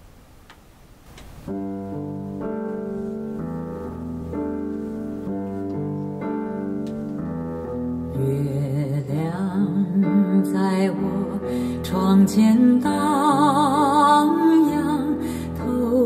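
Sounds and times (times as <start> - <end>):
instrumental music accompaniment: 1.2 - 16.0
keyboard chords: 1.5 - 16.0.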